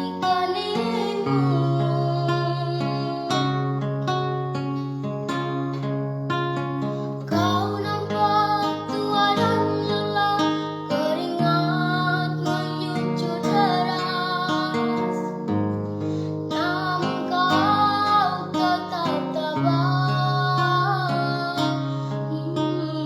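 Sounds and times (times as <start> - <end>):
woman singing: 0.0 - 3.8, 7.3 - 15.5, 16.5 - 23.0
acoustic guitar: 0.0 - 23.0.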